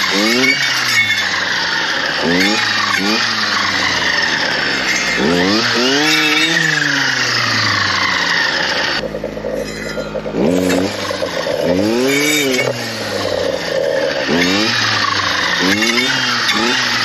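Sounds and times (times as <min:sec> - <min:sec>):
clearing saw engine revving: 0:00.0 - 0:17.0.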